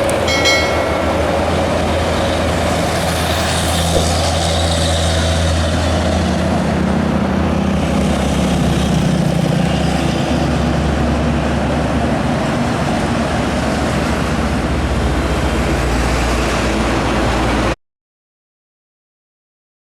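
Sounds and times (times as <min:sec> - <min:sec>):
road noise: 0:00.0 - 0:17.8.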